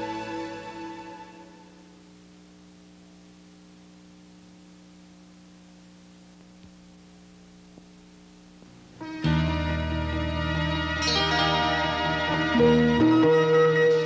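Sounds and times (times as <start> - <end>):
electrical hum with hiss: 0.0 - 14.0.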